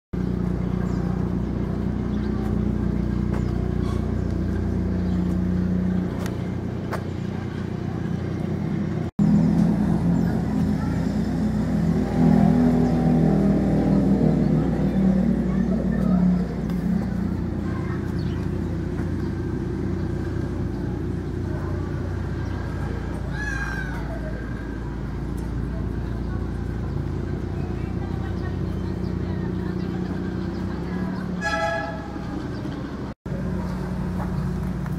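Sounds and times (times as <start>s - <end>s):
vehicle engine rumbling: 0.1s - 34.9s
low motor hum: 0.2s - 34.9s.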